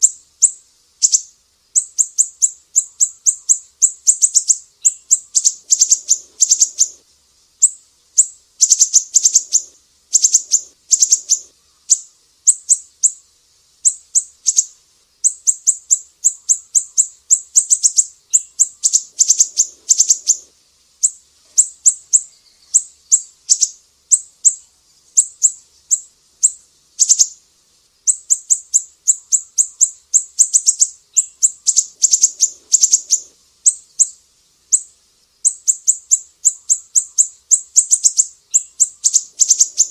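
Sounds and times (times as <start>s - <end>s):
bird chirping in bursts: 0.0s - 7.0s, 7.6s - 27.4s, 28.0s - 39.9s.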